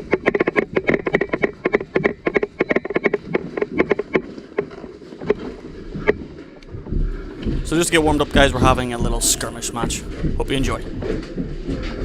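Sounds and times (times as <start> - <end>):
helmet camera rattling: 0.0 - 12.0.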